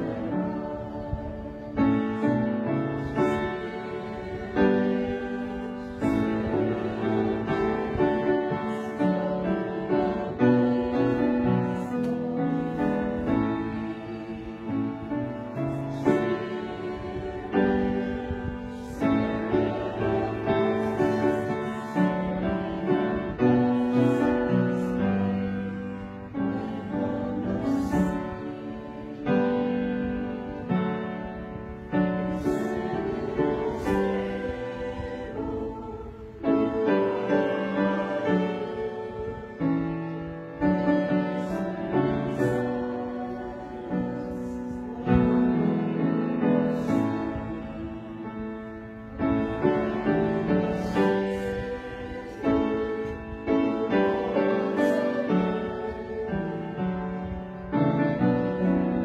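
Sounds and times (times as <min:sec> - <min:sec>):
slow piano piece: 0:00.0 - 0:59.0.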